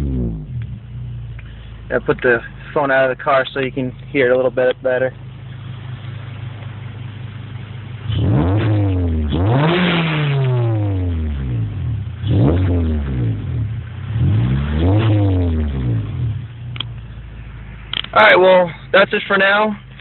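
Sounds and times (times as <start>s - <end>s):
car engine revving: 0.0s - 18.4s.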